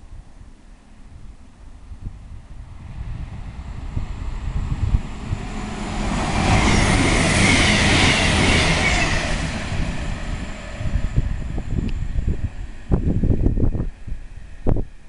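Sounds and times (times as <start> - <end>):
express train passing: 0.6 - 15.0
wind buffeting microphone: 1.1 - 15.0.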